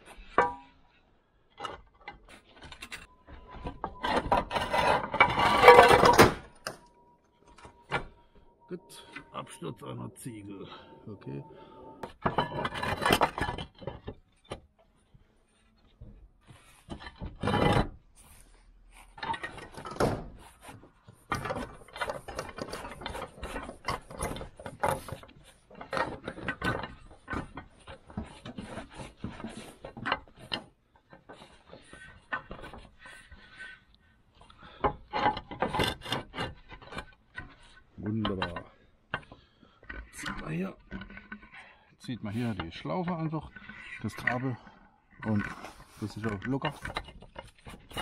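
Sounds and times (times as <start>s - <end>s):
clay roof tiles scraping and knocking: 0.0s - 48.0s.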